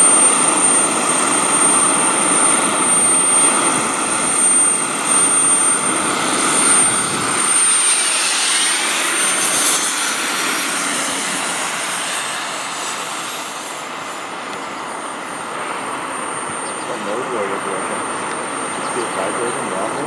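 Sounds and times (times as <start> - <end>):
model jet engine whine: 0.0 - 20.0.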